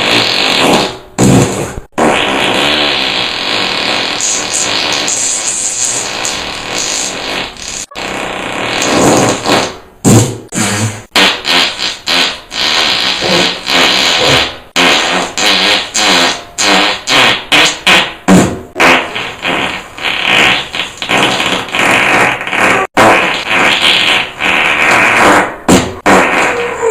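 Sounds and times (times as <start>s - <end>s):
fart sound effects: 0.0s - 26.9s.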